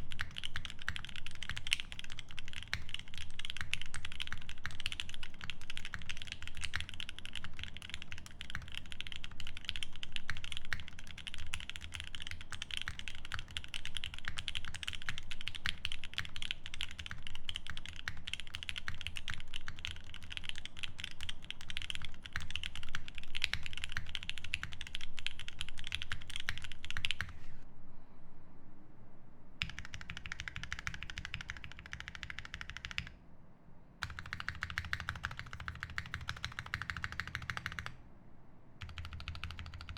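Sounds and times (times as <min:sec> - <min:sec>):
fast mechanical keyboard typing: 0:00.0 - 0:27.4, 0:29.6 - 0:33.1, 0:34.0 - 0:38.0, 0:38.8 - 0:39.9.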